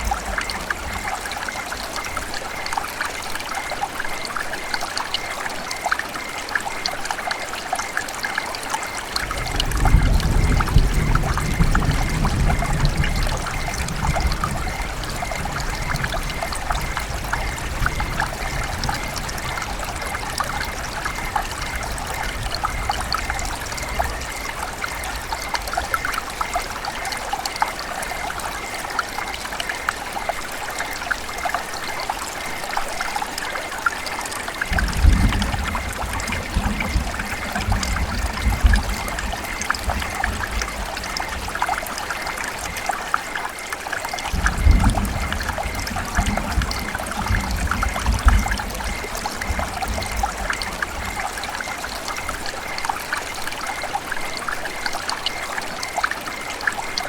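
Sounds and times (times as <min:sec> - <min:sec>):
river water trickling and splashing: 0:00.0 - 0:57.0.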